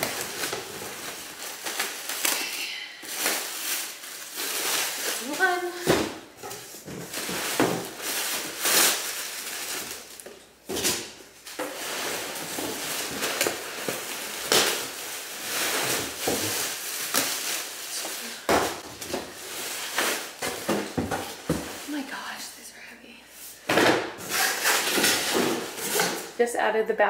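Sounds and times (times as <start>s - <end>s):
plastic bags crinkling: 0.0s - 22.4s, 24.2s - 26.4s.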